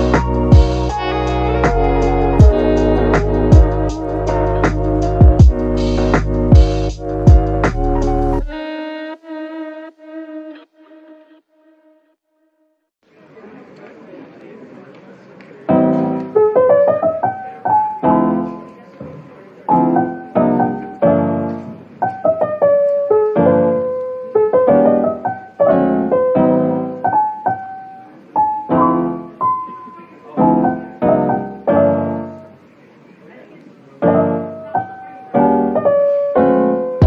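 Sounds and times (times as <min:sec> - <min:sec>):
piano music: 0:00.0 - 0:10.8, 0:15.7 - 0:32.7, 0:34.0 - 0:37.0.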